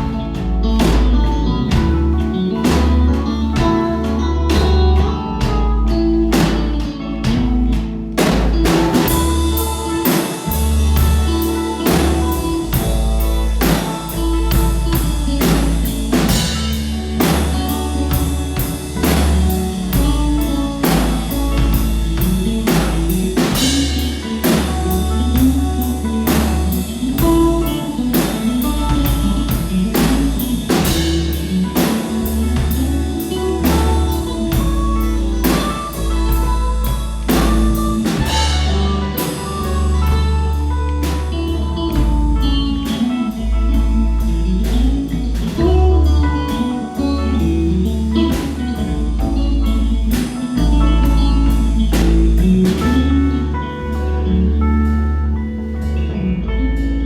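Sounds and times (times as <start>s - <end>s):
drum kit: 0.0s - 55.1s
guitar: 0.0s - 57.0s
low bass notes: 0.0s - 57.0s.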